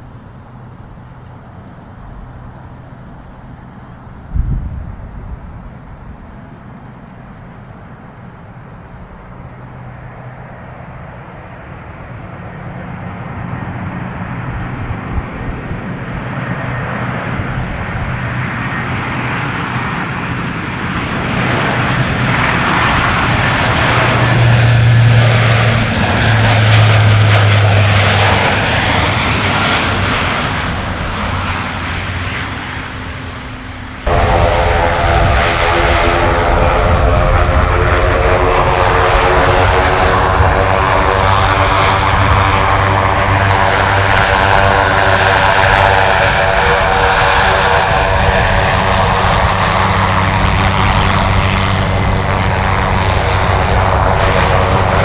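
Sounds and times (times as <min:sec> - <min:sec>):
aircraft engine close by: 0:00.0 - 0:55.0
aircraft engines passing: 0:00.0 - 0:55.0.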